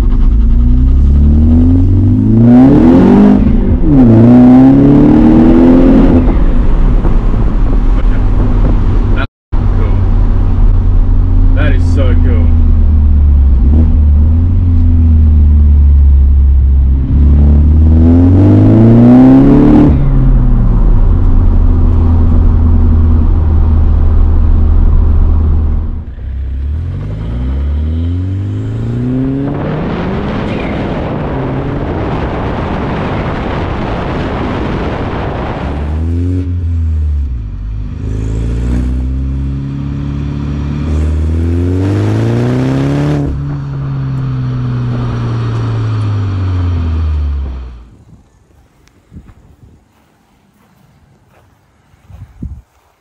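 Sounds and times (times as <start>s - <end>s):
car engine revving through gears: 0.0s - 9.2s, 11.8s - 47.8s
wind and road noise: 0.0s - 53.0s.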